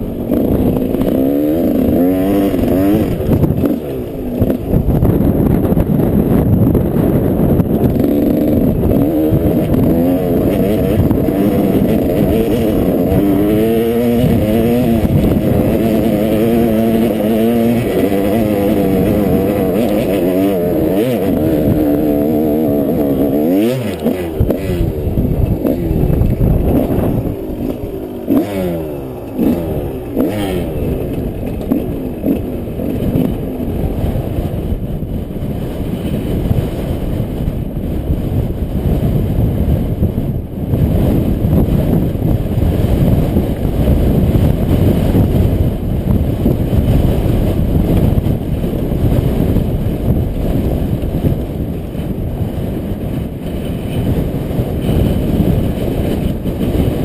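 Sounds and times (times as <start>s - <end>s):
motorcycle engine revving: 0.0s - 57.0s
motorcycle rattling: 0.0s - 57.0s.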